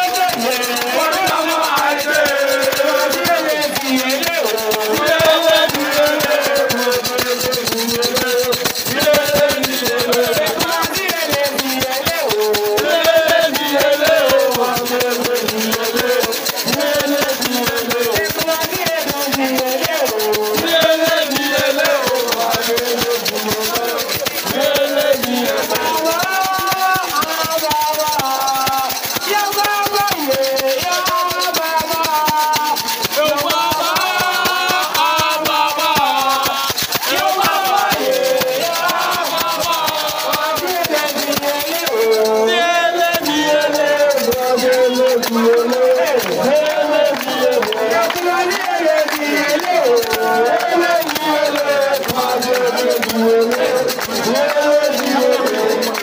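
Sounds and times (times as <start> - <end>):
fast rattling percussion: 0.0 - 56.0
voices singing a chant: 0.0 - 56.0.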